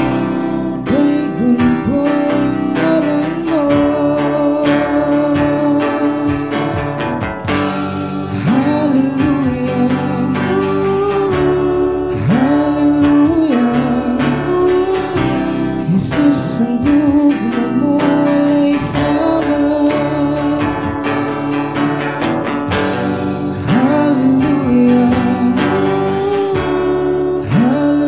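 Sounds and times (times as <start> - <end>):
guitar-led backing music: 0.0 - 28.0
person singing: 0.0 - 28.0.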